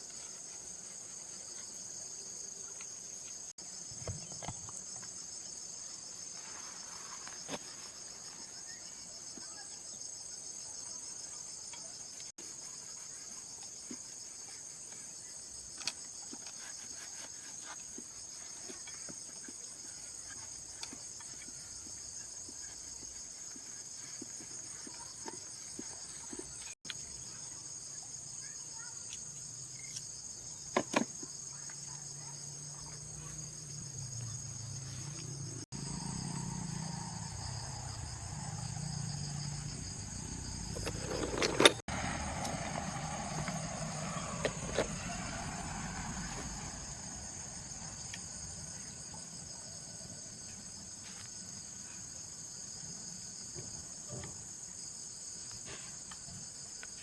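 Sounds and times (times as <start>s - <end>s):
insects chirping chorus: 0.0s - 57.0s.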